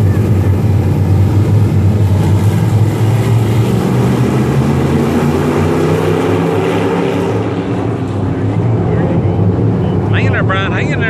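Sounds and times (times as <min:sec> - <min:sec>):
race cars droning past: 0:00.0 - 0:11.0.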